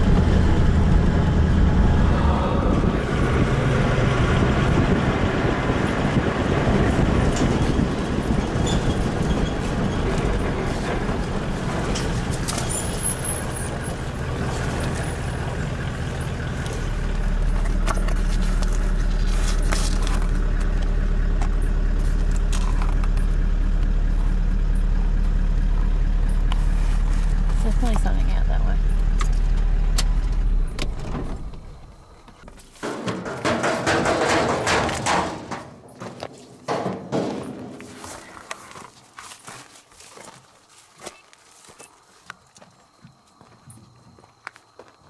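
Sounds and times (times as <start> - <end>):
vehicle engine running: 0.0 - 39.6.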